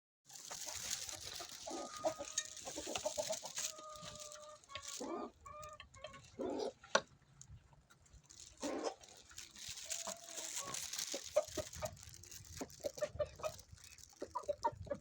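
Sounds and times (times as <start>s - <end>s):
chickens clucking: 0.3s - 7.3s, 7.9s - 15.0s.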